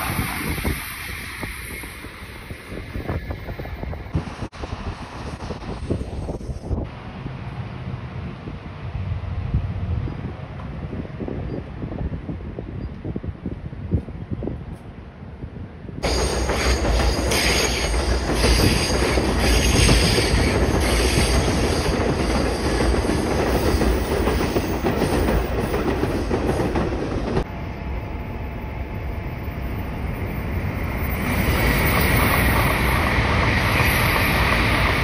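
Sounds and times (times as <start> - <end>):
bullet train arriving: 0.0 - 13.3, 15.5 - 35.0
train wheels rumbling over rails: 0.0 - 35.0.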